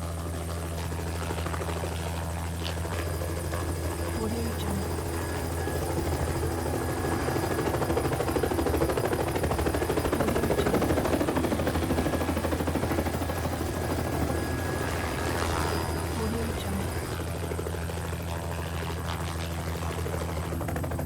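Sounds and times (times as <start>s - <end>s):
helicopter rotor beat: 0.0s - 21.0s.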